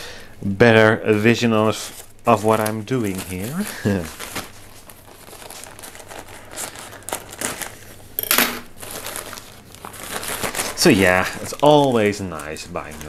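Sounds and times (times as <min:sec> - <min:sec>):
packing paper crinkling: 0:01.2 - 0:13.0.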